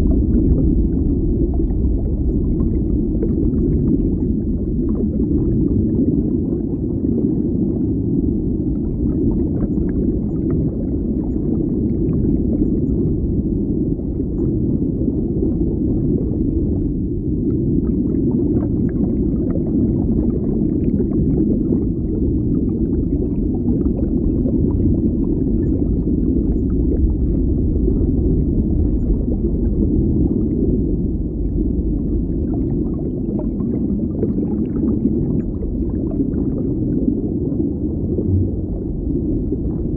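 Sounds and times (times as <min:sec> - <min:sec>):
faint crackles and pops: 0:00.0 - 0:39.9
underwater rumble of moving water: 0:00.0 - 0:39.9.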